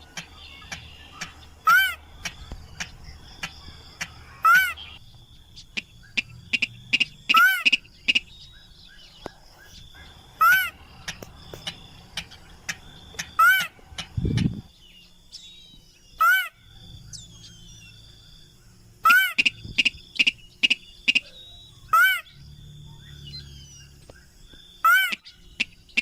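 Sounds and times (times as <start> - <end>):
loud arched bird call: 0.0 - 18.4, 19.0 - 24.0, 24.7 - 26.0
quieter clicking and chirping calls: 0.0 - 26.0.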